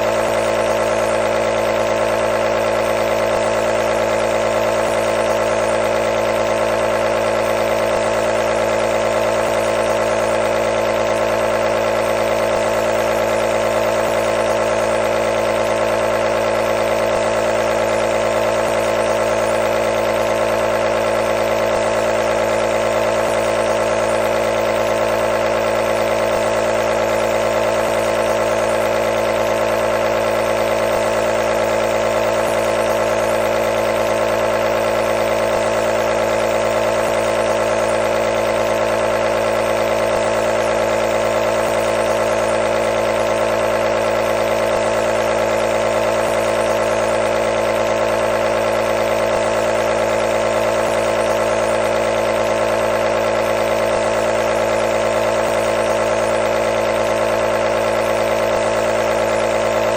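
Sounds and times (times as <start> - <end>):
nebulizer motor hum: 0.0 - 59.9.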